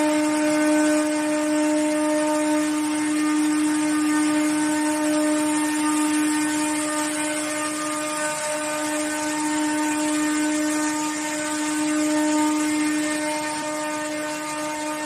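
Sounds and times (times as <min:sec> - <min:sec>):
steady motor whine: 0:00.0 - 0:15.0.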